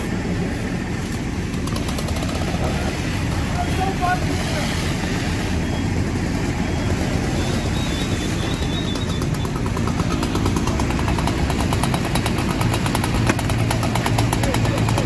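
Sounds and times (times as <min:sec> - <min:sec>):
loud engine-like rumble: 0:00.0 - 0:15.0.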